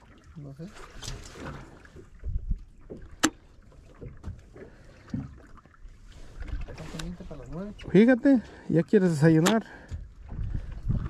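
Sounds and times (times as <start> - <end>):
water slapping boat hull: 0.0 - 11.0.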